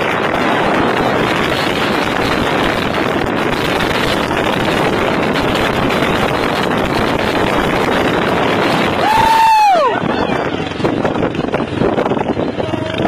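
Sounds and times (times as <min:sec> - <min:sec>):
road noise of traffic: 0:00.0 - 0:13.0
wind on microphone: 0:00.0 - 0:13.0.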